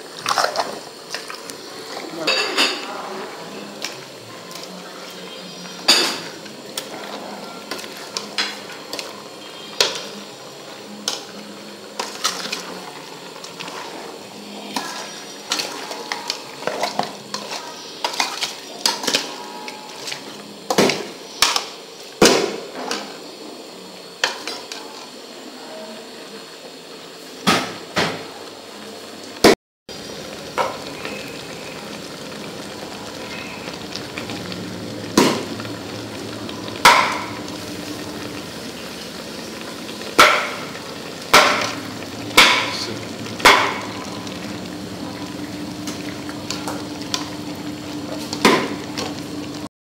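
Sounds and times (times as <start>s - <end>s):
sizzling pot: 0.0s - 49.7s.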